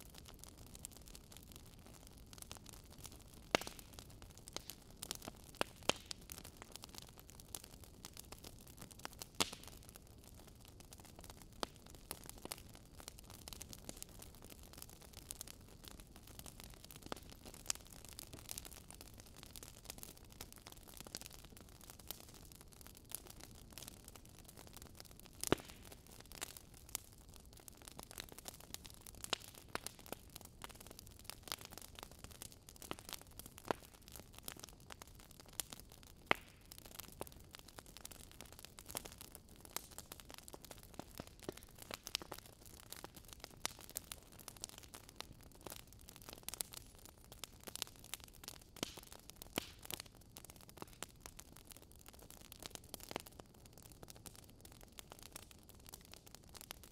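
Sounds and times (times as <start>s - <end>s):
fire crackling with pops: 0.0s - 56.9s.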